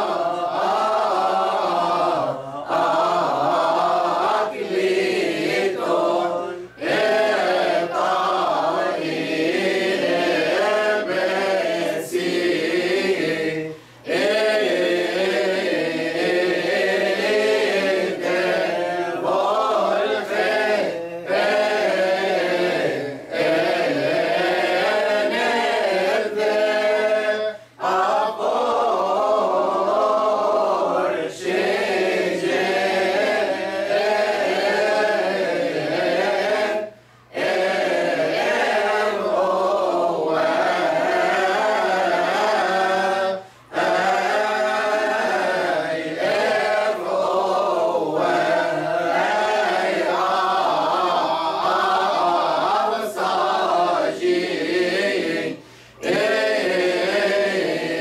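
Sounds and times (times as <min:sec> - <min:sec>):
choir chanting a cappella: 0:00.0 - 0:58.0.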